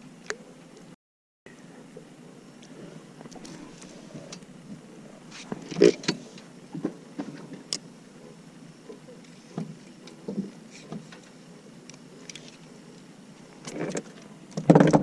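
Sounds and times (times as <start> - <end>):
faint steady background: 0.0 - 15.0.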